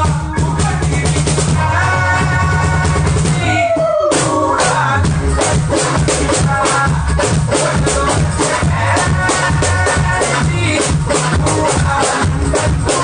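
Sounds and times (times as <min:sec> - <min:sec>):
music with drum beat: 0:00.0 - 0:13.0.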